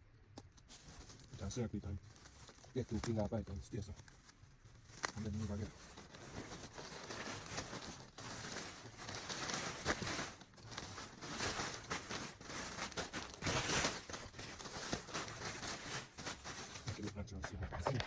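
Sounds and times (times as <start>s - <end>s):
dry leaves rustling and crunching: 0.7s - 17.2s.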